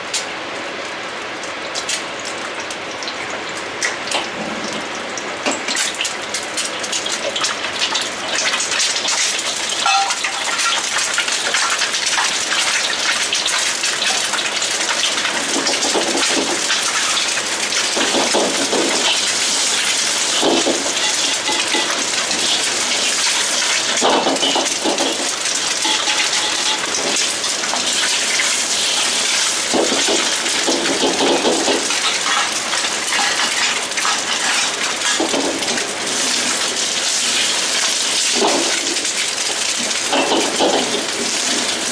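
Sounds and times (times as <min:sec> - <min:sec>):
eggs sizzling in hot oil: 0:05.6 - 0:41.9.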